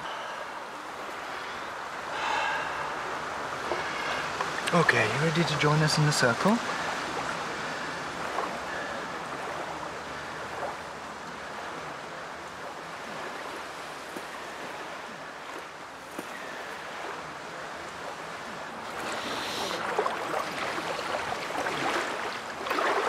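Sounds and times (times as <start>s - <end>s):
outdoor background rush: 0.0s - 23.0s.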